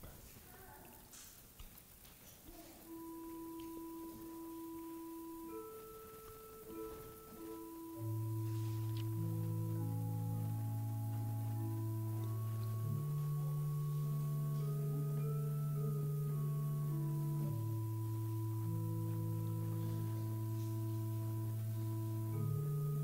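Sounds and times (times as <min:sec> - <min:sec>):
church organ chords: 0:02.8 - 0:23.0.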